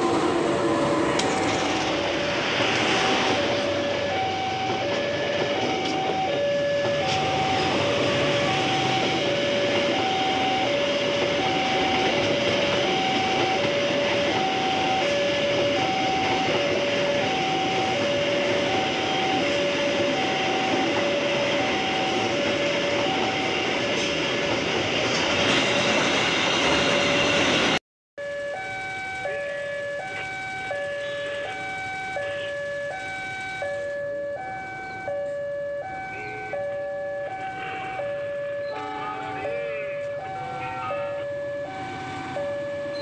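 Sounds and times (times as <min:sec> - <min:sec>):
passing train rushing: 0:00.0 - 0:27.8, 0:35.9 - 0:43.0
level-crossing two-tone alarm: 0:03.1 - 0:24.4, 0:25.5 - 0:43.0.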